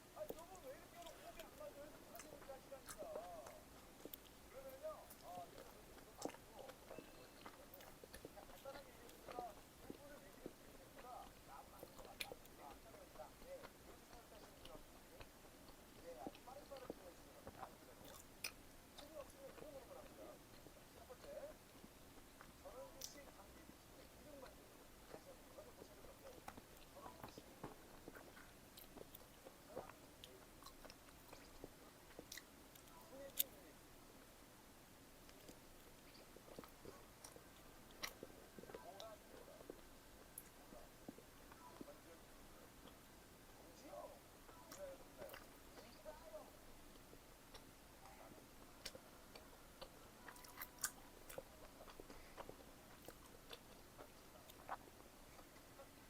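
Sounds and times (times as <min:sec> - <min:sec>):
chewing food: 0:00.2 - 0:56.0.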